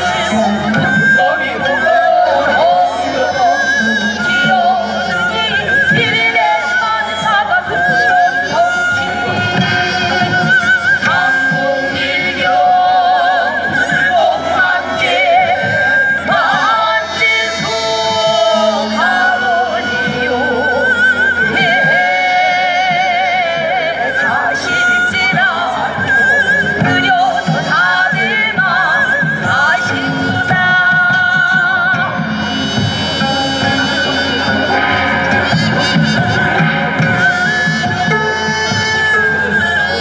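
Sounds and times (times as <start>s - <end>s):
traditional music with vibrato melody: 0.0s - 40.0s.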